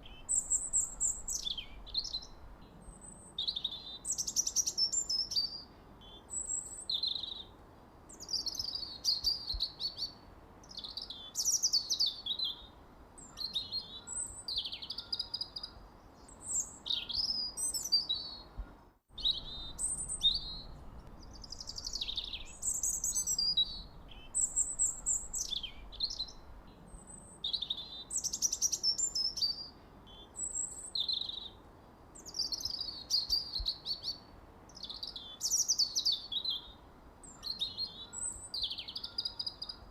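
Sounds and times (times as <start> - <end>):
songbirds chirping and singing: 0.0 - 31.6, 32.2 - 39.9
faint steady hiss: 0.0 - 39.9.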